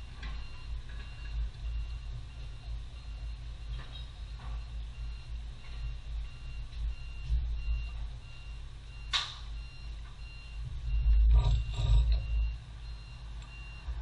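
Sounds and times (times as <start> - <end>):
low mechanical rumble: 0.0 - 14.0
faint high beeps: 0.4 - 14.0.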